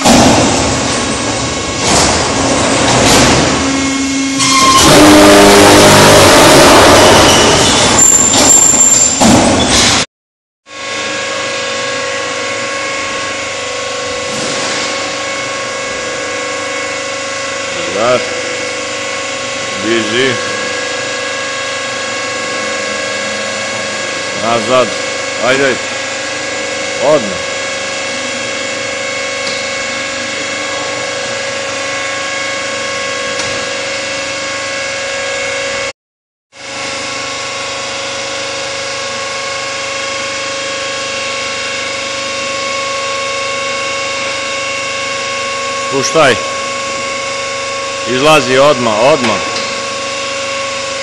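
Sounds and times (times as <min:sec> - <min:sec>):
heavy machinery humming with whine: 0:00.0 - 0:10.0, 0:10.7 - 0:35.9, 0:36.6 - 0:51.0.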